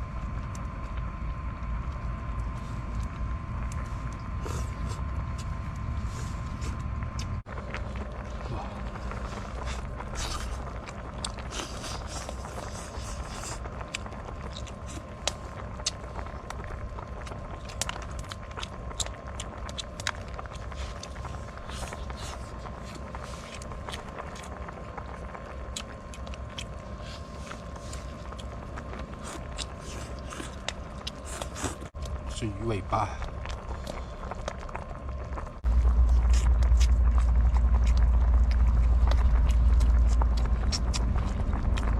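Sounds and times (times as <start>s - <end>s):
low rumble: 0.0s - 41.9s
wood fire crackling: 0.0s - 41.9s.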